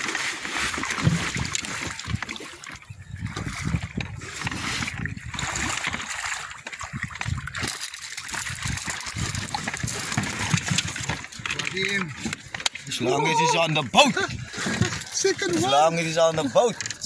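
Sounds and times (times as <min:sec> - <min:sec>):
fish thrashing at the surface: 0:00.0 - 0:17.0
water splashing and sloshing: 0:00.0 - 0:17.0.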